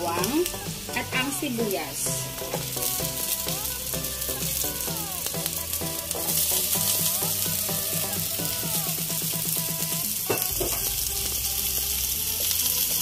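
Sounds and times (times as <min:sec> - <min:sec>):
food sizzling in oil: 0:00.0 - 0:13.0
soft background music: 0:00.0 - 0:13.0.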